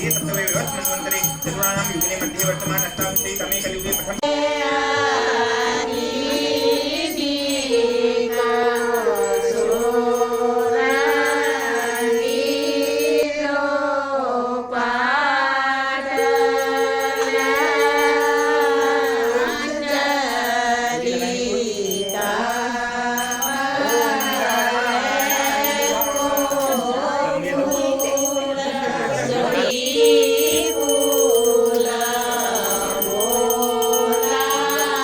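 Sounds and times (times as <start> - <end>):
person chanting with long notes: 0.0 - 13.3, 16.0 - 35.0.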